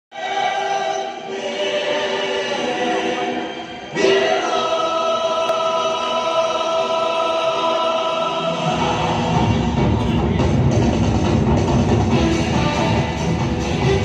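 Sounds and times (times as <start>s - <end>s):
choir singing stage music: 0.1s - 14.0s.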